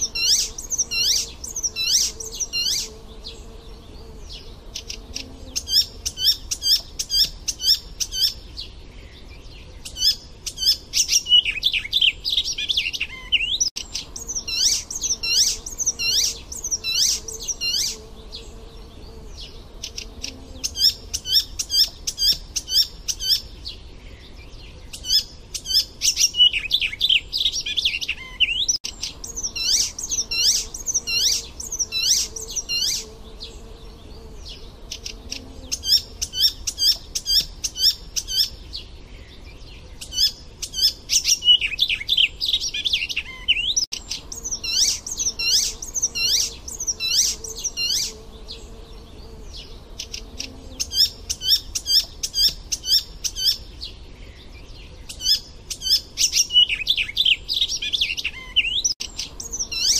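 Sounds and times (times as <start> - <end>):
warbler singing: 0.0 - 59.9.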